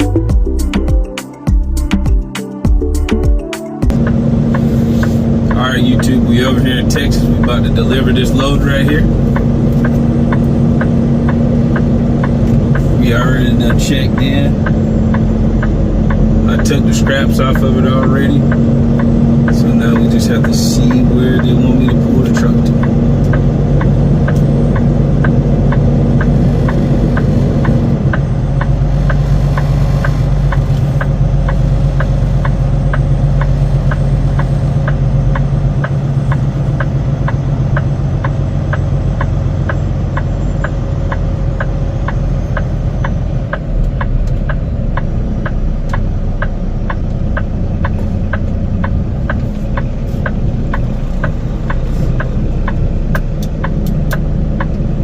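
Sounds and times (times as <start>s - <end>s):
diesel truck engine running: 0.0s - 55.0s
regular clicking: 5.4s - 54.8s.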